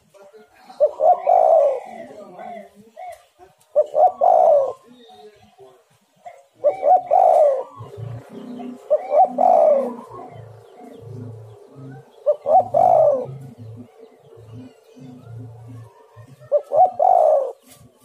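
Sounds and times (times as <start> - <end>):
doves cooing: 0.7 - 5.4, 6.2 - 18.0.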